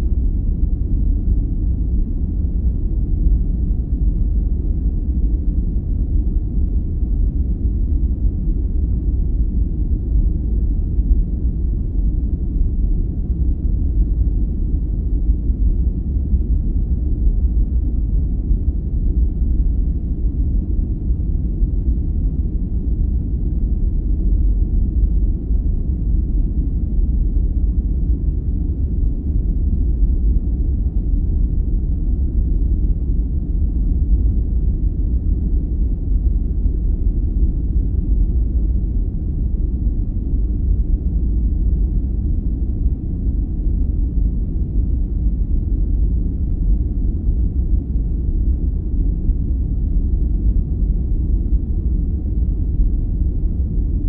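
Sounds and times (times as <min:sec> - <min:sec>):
deep even rumble noise: 0:00.0 - 0:54.0.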